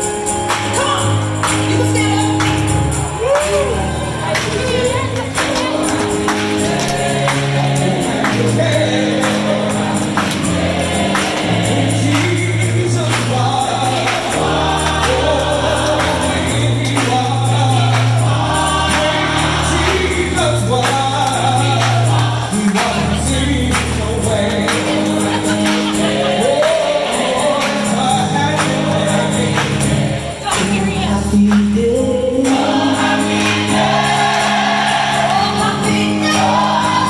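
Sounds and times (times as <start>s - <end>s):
band and strings playing: 0.0s - 37.0s
gospel choir singing: 0.0s - 37.0s
held bass notes: 0.0s - 37.0s.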